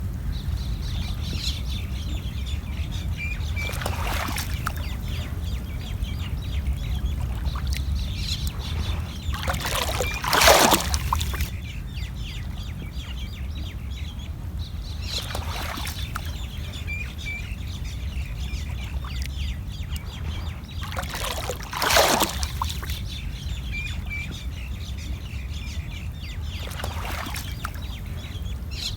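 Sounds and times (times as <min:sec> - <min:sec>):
low rumble: 0:00.0 - 0:26.7
birds chirping: 0:00.0 - 0:28.9
small waves washing ashore: 0:00.0 - 0:28.9.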